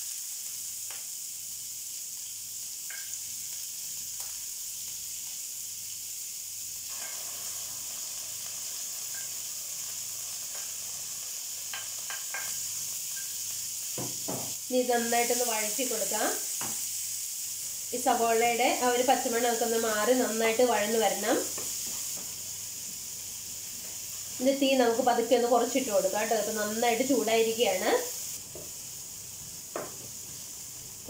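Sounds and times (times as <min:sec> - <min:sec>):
onion sizzling in frying pan: 0:00.0 - 0:31.0.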